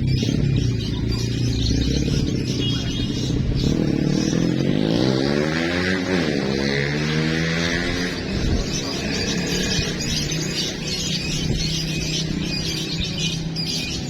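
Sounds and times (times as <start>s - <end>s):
birds singing faintly: 0.0s - 14.0s
motorcycle engine running: 0.0s - 14.0s.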